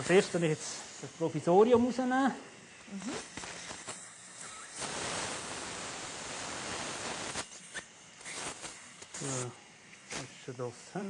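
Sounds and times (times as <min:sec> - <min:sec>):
dental suction hissing: 0:00.0 - 0:11.0.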